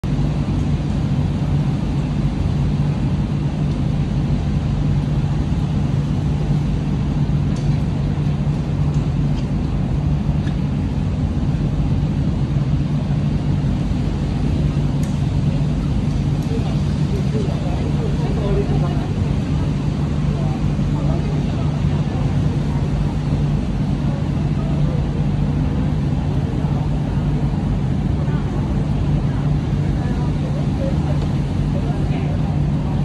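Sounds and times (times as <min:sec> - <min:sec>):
low hum: 0:00.0 - 0:33.0
rain falling: 0:00.2 - 0:33.0.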